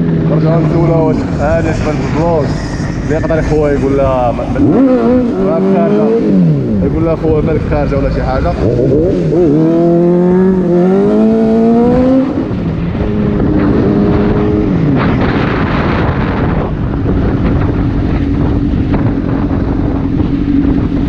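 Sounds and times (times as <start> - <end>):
motorcycle engine accelerating: 0.0 - 21.0
wind rushing over microphone: 0.0 - 21.0.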